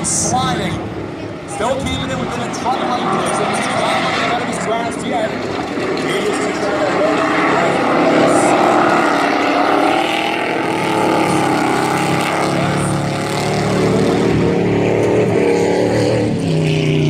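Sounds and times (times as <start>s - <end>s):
racing truck engines revving: 0.0s - 17.0s.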